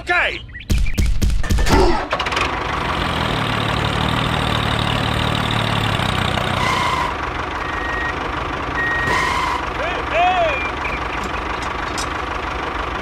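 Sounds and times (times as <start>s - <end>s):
tractor engine idling: 2.1s - 13.0s.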